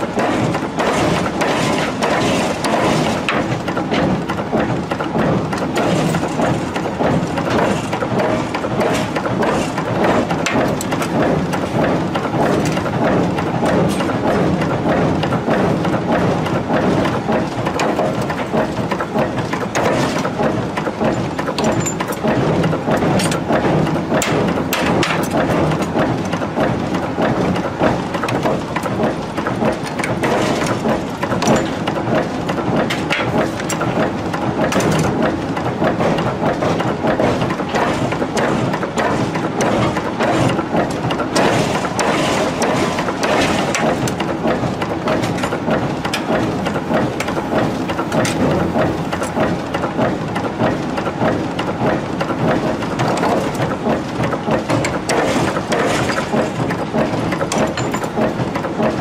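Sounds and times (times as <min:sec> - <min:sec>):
continuous machinery noise: 0:00.0 - 0:59.0.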